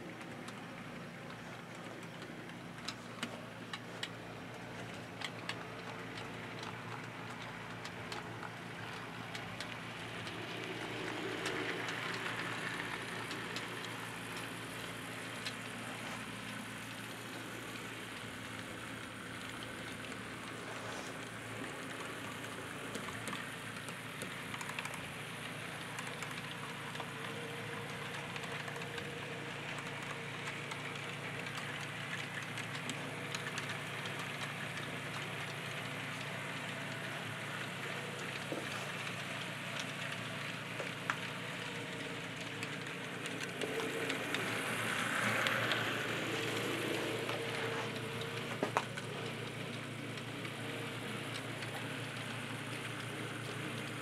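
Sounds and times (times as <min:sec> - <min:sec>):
clicks over rail joints: 0:00.0 - 0:54.0
faint model train motor: 0:00.0 - 0:54.0
model train wheels rolling on rails: 0:00.0 - 0:54.0.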